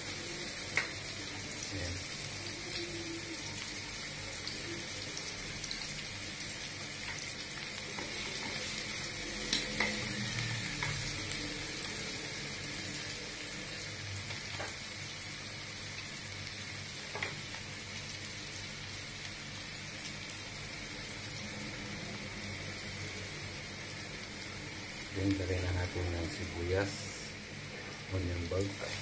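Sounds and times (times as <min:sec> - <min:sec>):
garlic sizzling in hot oil: 0:00.0 - 0:29.0.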